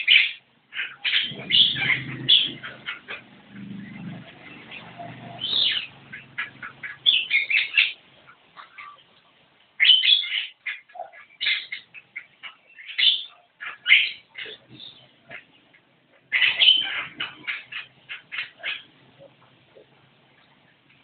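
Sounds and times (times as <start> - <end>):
myna calling and singing: 0.0 - 21.0.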